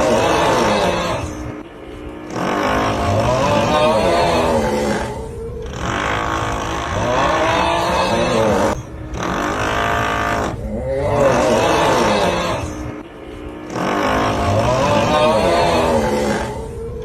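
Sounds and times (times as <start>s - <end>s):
continuous drilling noise: 0.0s - 17.0s
drawn-out groaning voice: 0.0s - 17.0s.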